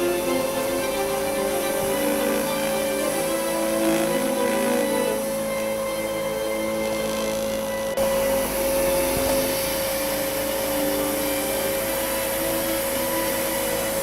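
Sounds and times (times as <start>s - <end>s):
faint background music: 0.0s - 14.0s
helicopter turbine and rotors: 0.0s - 14.0s.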